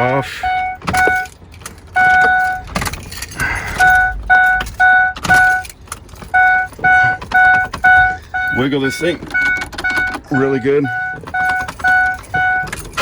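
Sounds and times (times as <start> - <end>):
dashboard warning chime dinging: 0.0 - 13.0
keys jingling: 0.7 - 13.0.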